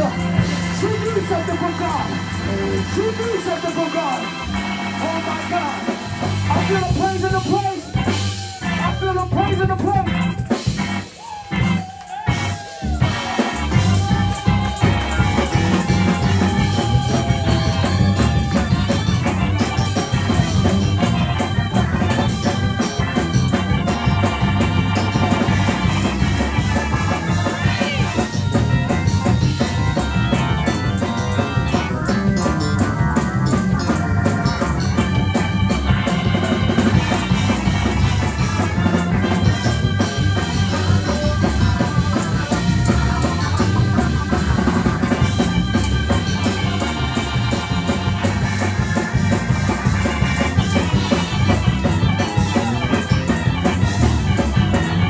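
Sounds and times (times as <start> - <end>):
organ and drums praise music: 0.0 - 55.0.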